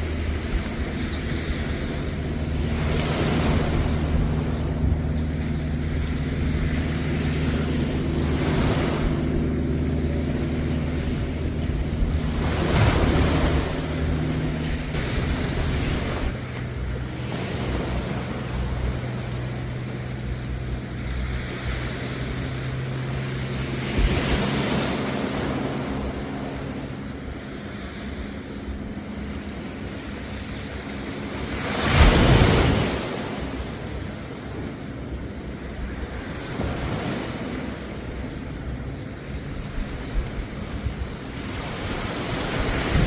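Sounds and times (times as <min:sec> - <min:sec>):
low engine hum: 0:00.0 - 0:43.0
sea waves washing onto beach: 0:00.0 - 0:43.0.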